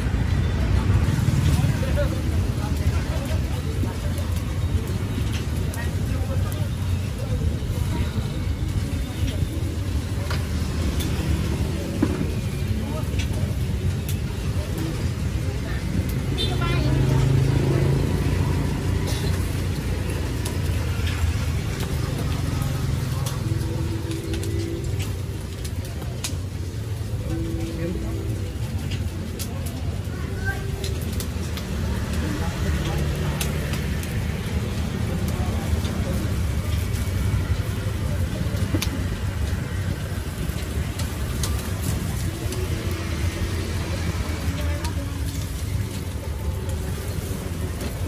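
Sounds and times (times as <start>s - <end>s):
vehicle engines rumbling: 0.0s - 48.0s.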